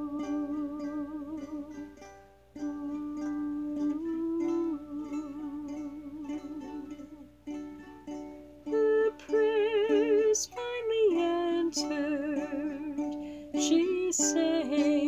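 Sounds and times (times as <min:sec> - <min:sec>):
woman singing with vibrato: 0:00.0 - 0:02.0, 0:02.6 - 0:07.3, 0:08.7 - 0:15.0
plucked string instrument: 0:00.0 - 0:15.0.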